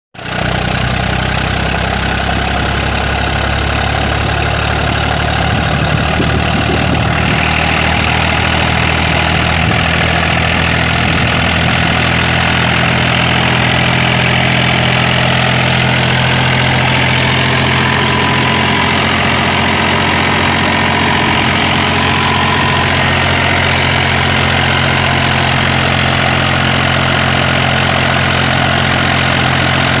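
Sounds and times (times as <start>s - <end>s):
tractor diesel engine running: 0.2s - 30.0s.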